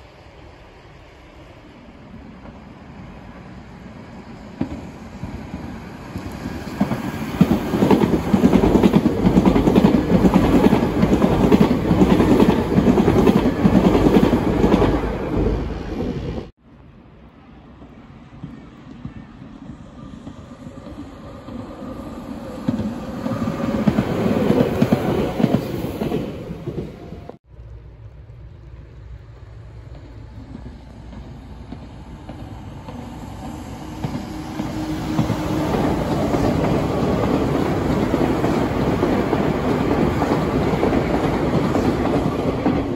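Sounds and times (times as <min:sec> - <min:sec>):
electric train running on rails: 0:00.0 - 0:42.9.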